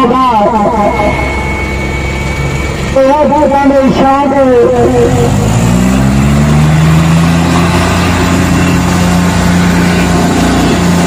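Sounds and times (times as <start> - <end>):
tractor engines under heavy load: 0.0 - 11.0.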